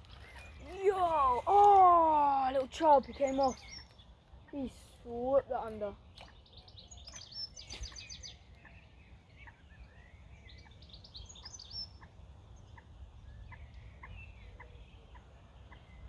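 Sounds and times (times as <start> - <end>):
small birds trilling and chirping: 0.0 - 16.0.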